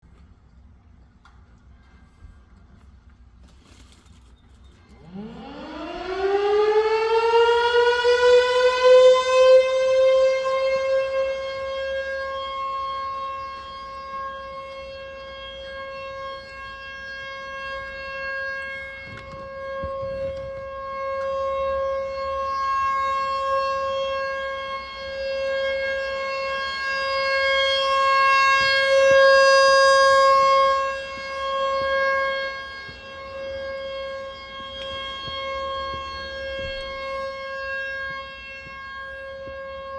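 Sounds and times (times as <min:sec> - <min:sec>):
warning siren wailing: 0:01.7 - 0:39.9.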